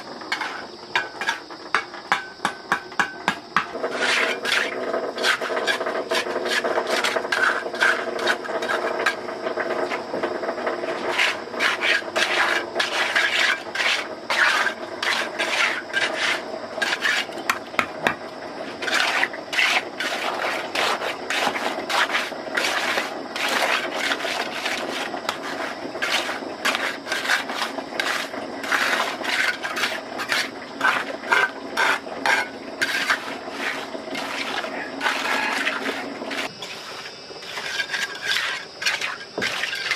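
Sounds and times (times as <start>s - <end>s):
rapid scraping strokes: 3.8s - 9.2s, 10.9s - 17.4s, 18.8s - 39.9s.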